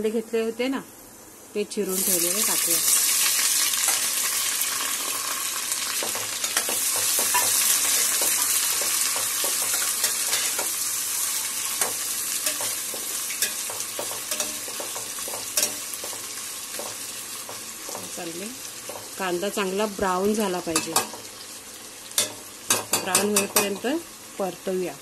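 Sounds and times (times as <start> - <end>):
onions sizzling in oil: 1.1 - 25.0.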